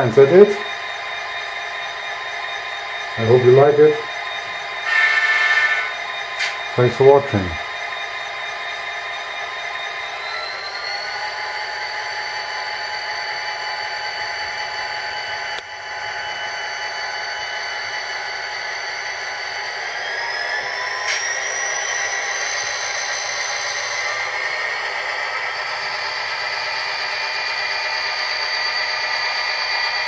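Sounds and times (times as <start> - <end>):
diesel engine sound through small speaker: 0.0 - 30.0.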